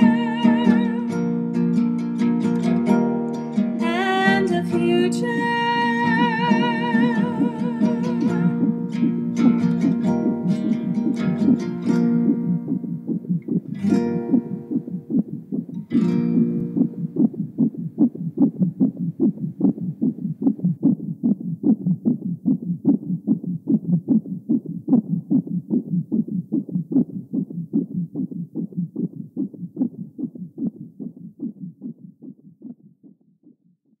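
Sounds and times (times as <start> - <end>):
human heartbeat: 6.1 - 34.0.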